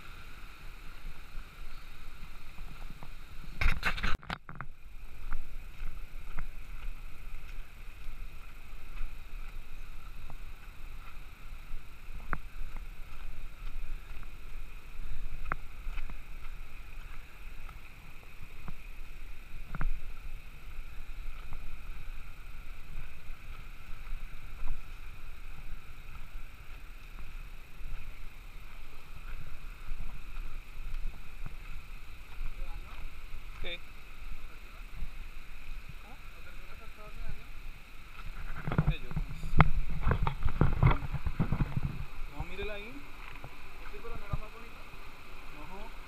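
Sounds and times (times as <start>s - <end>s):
creek running over stones: 0.0s - 46.0s.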